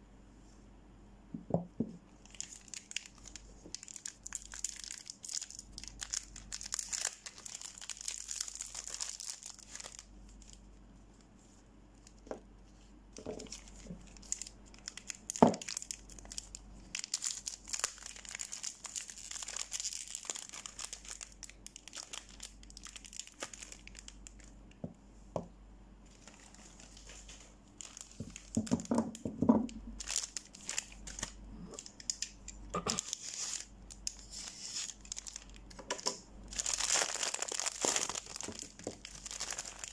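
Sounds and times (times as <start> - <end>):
plastic wrapper crinkling: 2.2 - 10.6, 13.2 - 24.7, 26.1 - 39.9.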